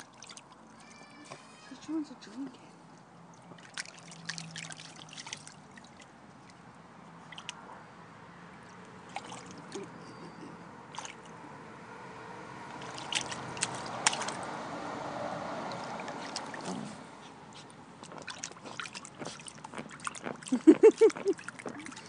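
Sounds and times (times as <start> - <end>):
water splashing in paddling pool: 0.0 - 1.6, 2.8 - 10.1, 10.7 - 22.0.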